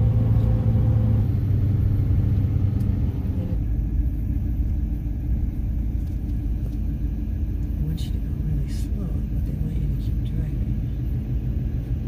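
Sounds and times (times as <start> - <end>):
road rumble: 0.0 - 12.0
truck engine hum: 0.0 - 12.0.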